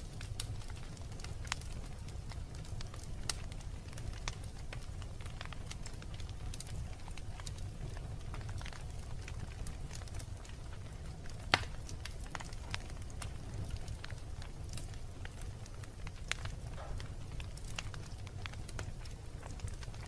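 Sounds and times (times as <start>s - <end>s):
fire low rumble: 0.0s - 20.0s
wood fire crackling and popping: 0.0s - 20.0s.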